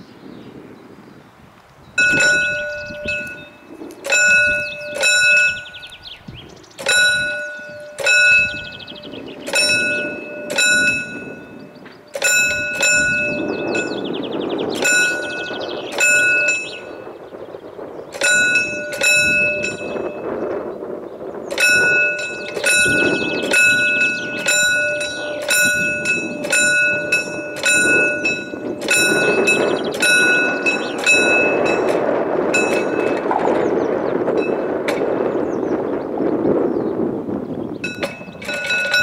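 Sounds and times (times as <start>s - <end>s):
railway crossing warning bell: 2.0s - 6.0s, 6.8s - 17.2s, 18.1s - 20.6s, 21.3s - 35.3s, 37.8s - 39.0s
low rattle: 2.0s - 35.9s, 37.8s - 39.0s.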